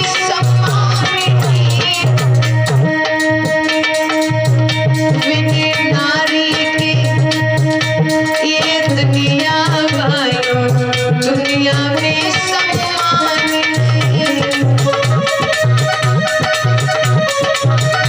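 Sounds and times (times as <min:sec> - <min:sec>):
hand drum beat: 0:00.0 - 0:18.0
held drone: 0:00.0 - 0:18.0
keyboard melody: 0:00.0 - 0:18.0.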